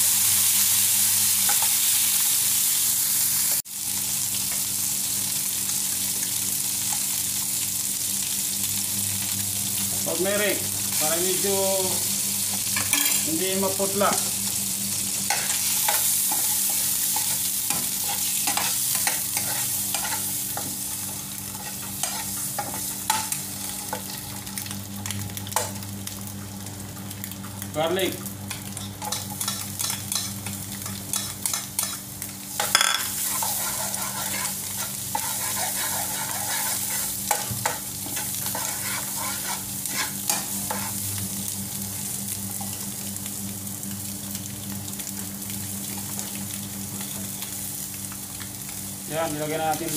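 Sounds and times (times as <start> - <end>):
oil sizzling in a pan: 0.0 - 49.9.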